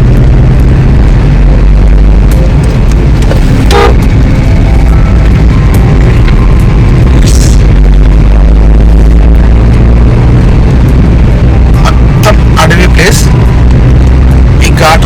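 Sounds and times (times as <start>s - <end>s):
vehicle low rumble: 0.0s - 15.0s.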